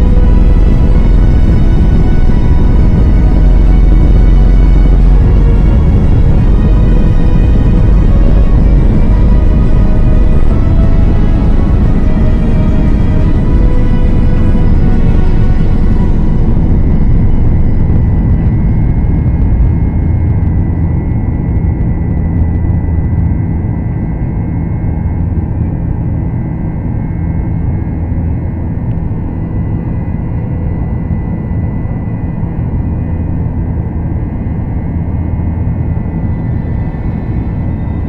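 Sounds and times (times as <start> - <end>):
faint high whine: 0.0 - 38.0
jet engines rumbling in cabin: 0.0 - 38.0.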